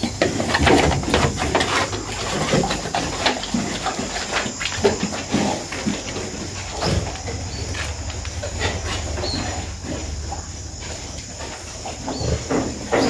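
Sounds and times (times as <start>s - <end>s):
pigs grunting: 0.0s - 13.0s.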